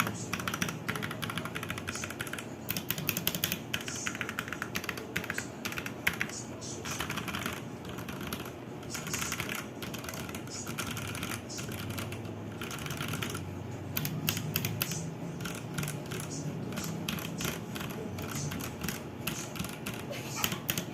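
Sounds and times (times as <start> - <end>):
mechanical keyboard typing: 0.0 - 20.9.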